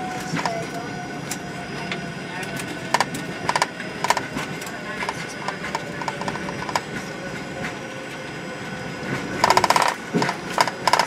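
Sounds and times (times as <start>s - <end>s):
aircraft engine and tyre rumble: 0.0s - 11.0s.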